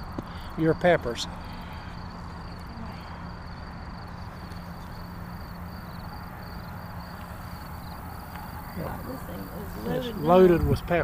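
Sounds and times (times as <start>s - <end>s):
crickets chirping: 0.0s - 11.0s
low steady hum: 0.0s - 11.0s.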